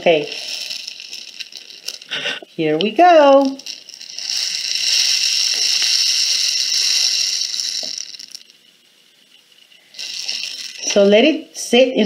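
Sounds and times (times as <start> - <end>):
rice running through rain stick: 0.0 - 11.4.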